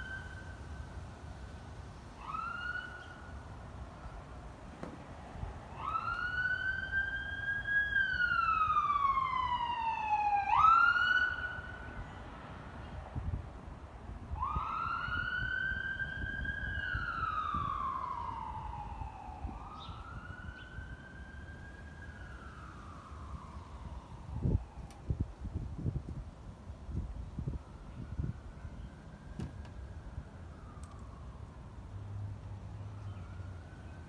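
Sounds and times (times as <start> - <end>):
emergency siren wailing: 0.0 - 1.0, 2.1 - 3.9, 5.5 - 12.6, 14.2 - 26.0, 26.9 - 34.0.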